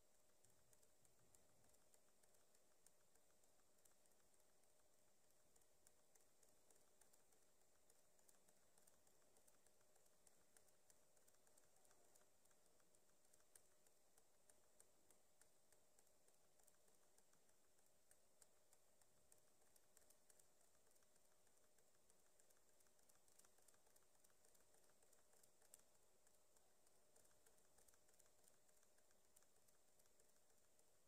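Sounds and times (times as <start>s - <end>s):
faint room hiss: 0.0s - 31.0s
computer mouse or keyboard clicks: 0.2s - 31.0s.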